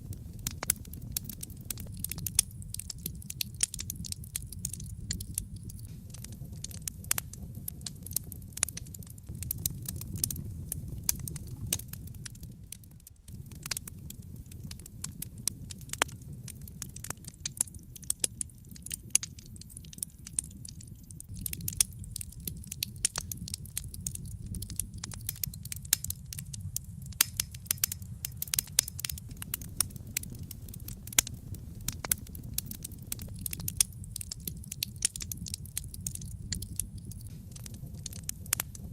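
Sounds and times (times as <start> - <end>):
wood fire crackling in fireplace: 0.0 - 38.9.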